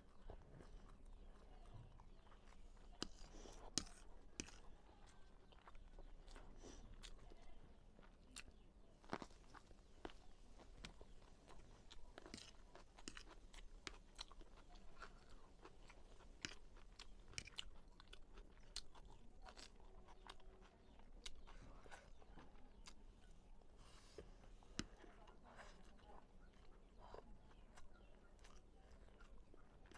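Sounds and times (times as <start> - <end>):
chewing crisp crunches: 0.0 - 29.9.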